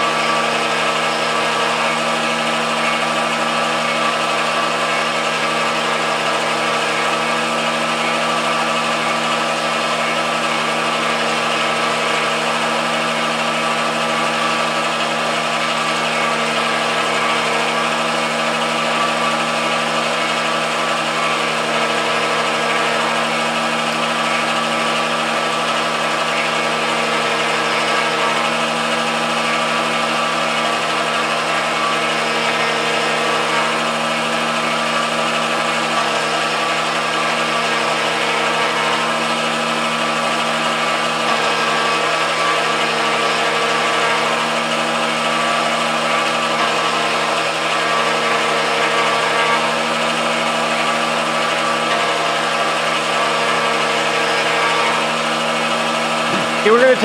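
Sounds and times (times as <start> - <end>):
lathe machine whine: 0.0 - 57.0.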